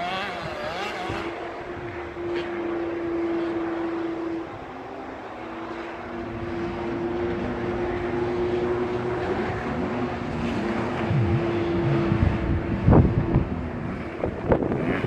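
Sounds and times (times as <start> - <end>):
engine running steadily: 0.0 - 15.0
engines revving: 0.0 - 15.0.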